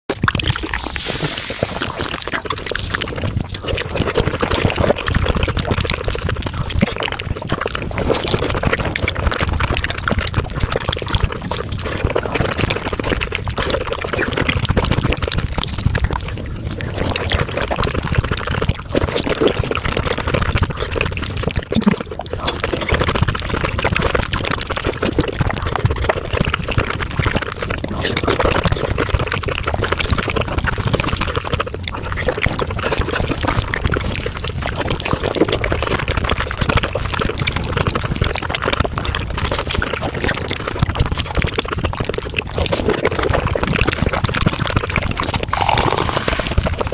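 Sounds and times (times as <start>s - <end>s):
wet slurping and chewing: 0.1s - 46.9s.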